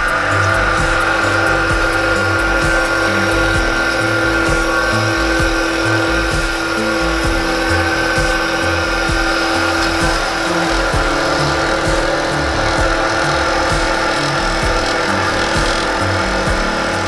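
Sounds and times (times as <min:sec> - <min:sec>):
background music with a beat: 0:00.0 - 0:17.0
flour mill whining: 0:00.0 - 0:17.0.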